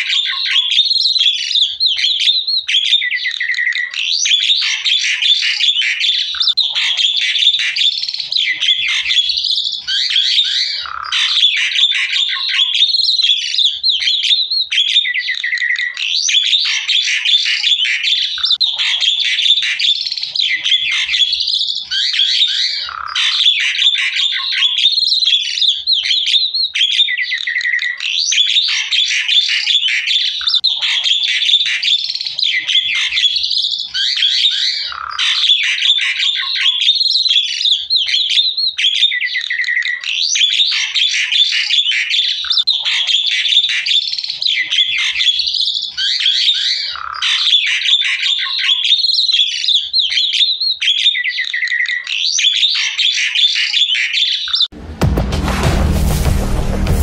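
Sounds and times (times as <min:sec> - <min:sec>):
bird chattering and whistling: 0:00.0 - 0:54.7.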